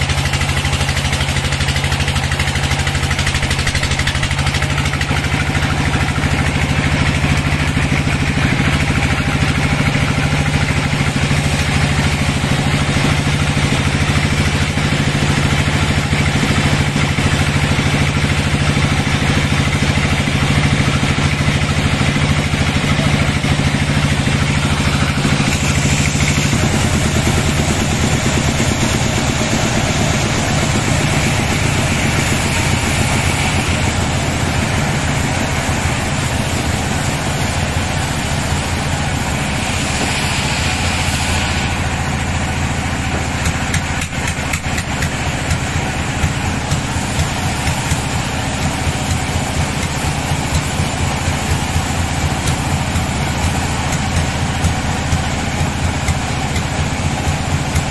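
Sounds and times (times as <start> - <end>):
clacks: 0.0 - 57.9
sawmill engine running: 0.0 - 57.9.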